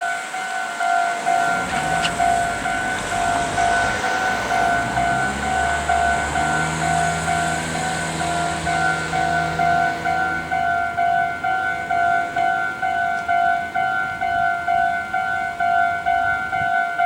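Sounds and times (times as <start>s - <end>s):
electric train rumble and hum: 0.4s - 16.7s.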